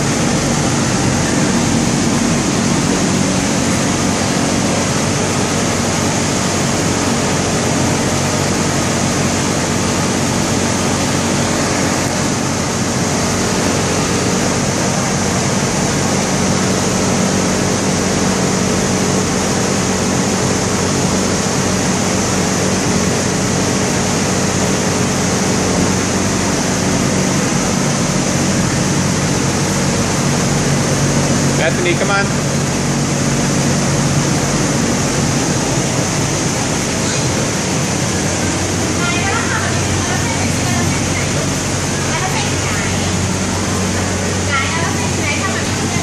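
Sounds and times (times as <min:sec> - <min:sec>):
blower fan rush of air: 0:00.0 - 0:46.0
low motor hum: 0:00.0 - 0:46.0.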